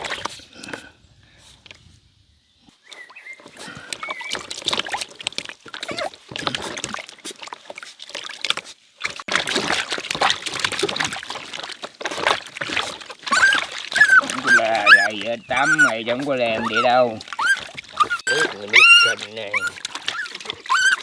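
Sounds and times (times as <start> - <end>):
water splashing and sloshing: 0.0 - 0.8, 2.7 - 21.0.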